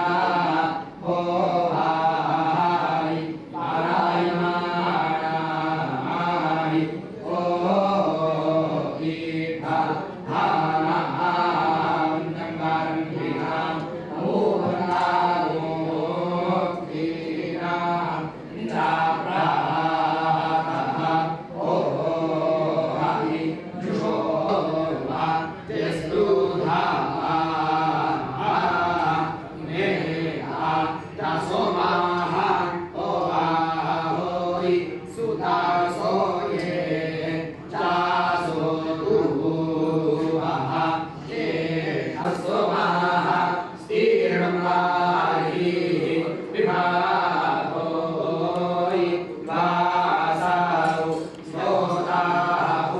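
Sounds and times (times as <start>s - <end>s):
men chanting in unison: 0.0s - 52.9s.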